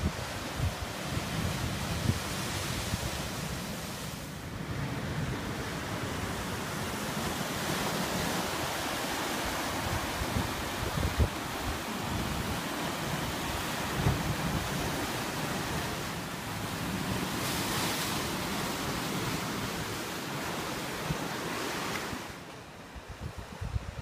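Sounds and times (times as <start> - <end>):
wind on microphone: 0.0 - 3.8, 4.6 - 22.3, 22.9 - 24.0.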